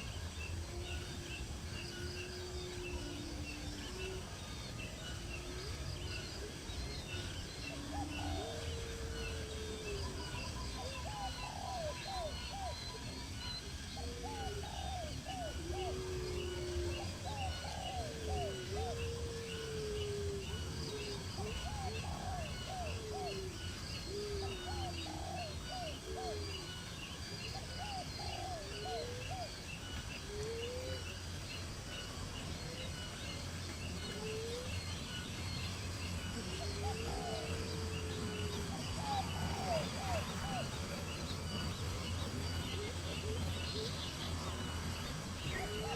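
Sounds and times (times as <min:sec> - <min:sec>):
birds calling: 0:01.4 - 0:45.9.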